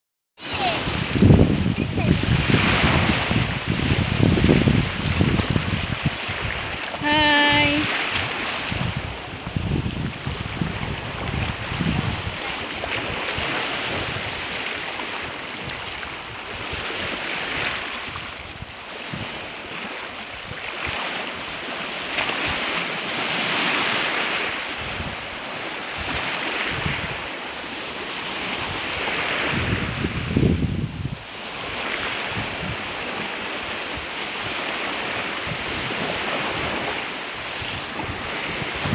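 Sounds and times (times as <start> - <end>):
wind buffeting microphone: 0.4 - 27.4, 28.4 - 38.9
waves washing over pebbles: 0.4 - 38.9.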